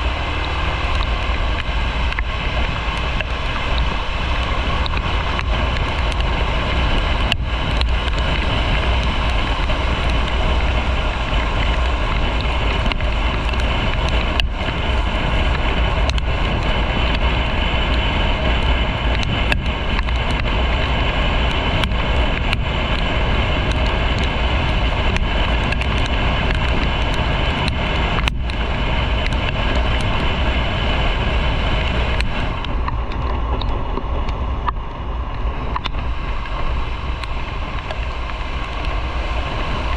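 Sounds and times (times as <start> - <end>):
motorcycle running: 0.0 - 39.9
wind rush over microphone: 0.0 - 39.9.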